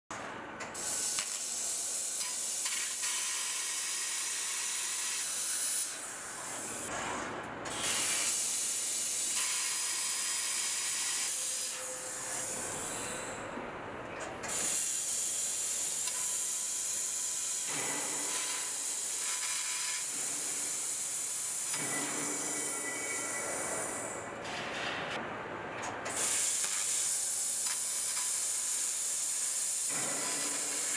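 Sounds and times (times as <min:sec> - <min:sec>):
laser cutter gas jet hiss: 0:00.8 - 0:06.1, 0:07.8 - 0:13.3, 0:14.5 - 0:24.2, 0:26.2 - 0:30.9.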